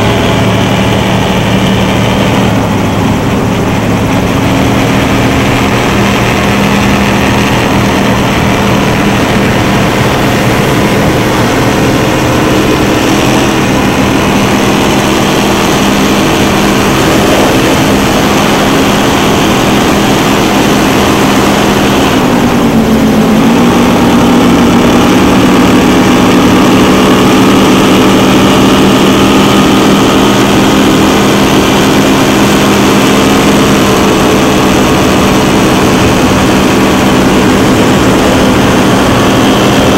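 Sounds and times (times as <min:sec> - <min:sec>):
powerboat engines running hard: 0:00.0 - 0:39.9
rushing water and spray: 0:00.0 - 0:39.9.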